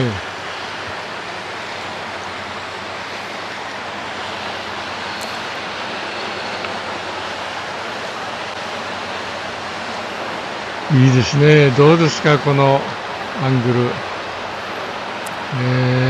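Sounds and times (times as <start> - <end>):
motorboat engine hum: 0.0 - 16.0
rushing outdoor noise: 0.0 - 16.0.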